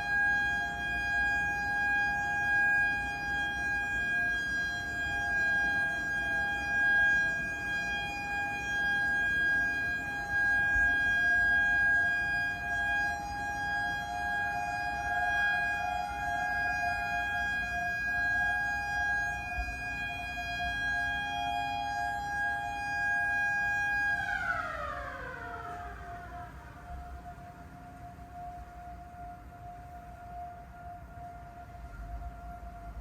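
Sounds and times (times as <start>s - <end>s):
warning sirens steady tone: 0.0s - 33.0s.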